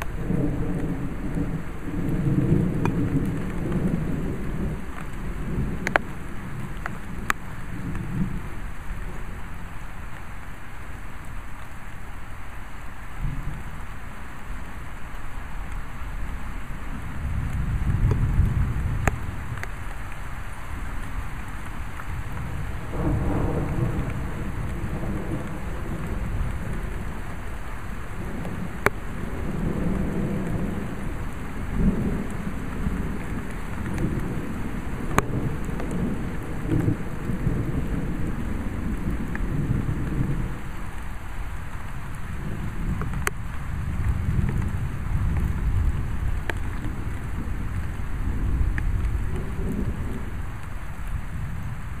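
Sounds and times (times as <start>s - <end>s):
thunder rumbling: 0.0s - 11.4s, 13.1s - 52.0s
steady rain: 0.0s - 52.0s.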